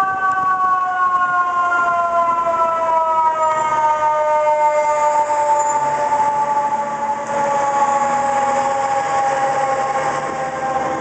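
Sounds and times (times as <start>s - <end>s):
mechanical siren winding down: 0.0s - 11.0s.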